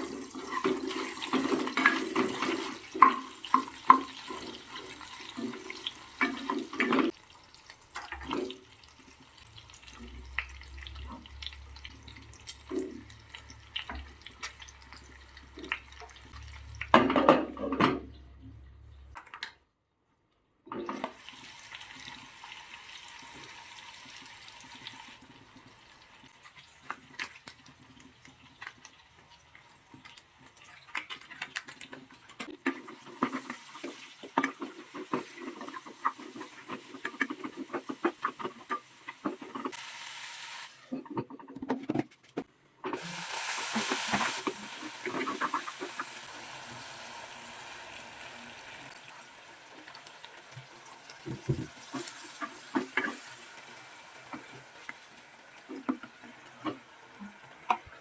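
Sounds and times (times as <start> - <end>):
meat sizzling in a pan: 0.0 - 16.8, 21.1 - 40.9, 43.0 - 58.0.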